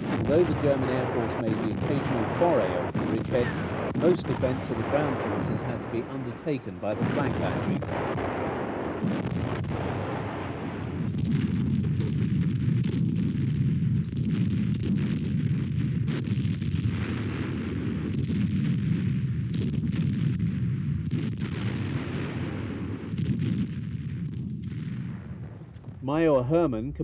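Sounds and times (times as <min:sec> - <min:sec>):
artillery fire and explosions: 0:00.0 - 0:27.0.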